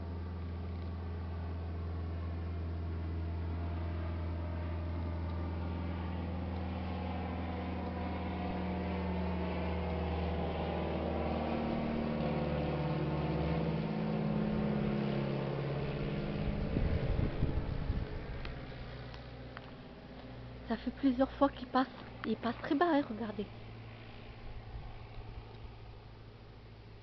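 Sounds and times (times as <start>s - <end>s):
low-flying aircraft engine drone: 0.0s - 27.0s.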